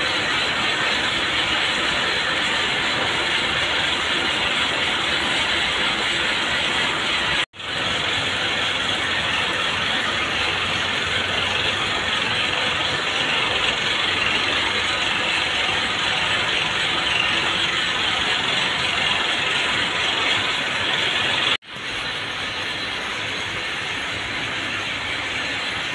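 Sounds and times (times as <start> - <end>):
braiding machinery running: 0.0 - 25.9.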